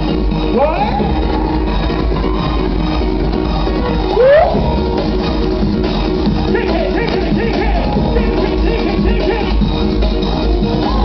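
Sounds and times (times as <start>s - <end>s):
loud music: 0.0s - 11.0s.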